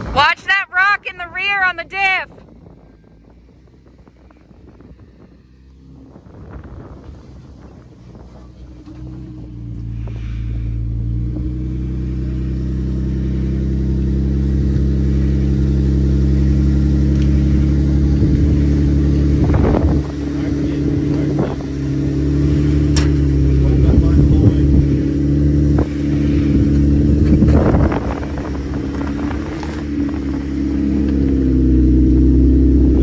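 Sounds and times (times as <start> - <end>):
engine working under load: 0.0 - 33.0.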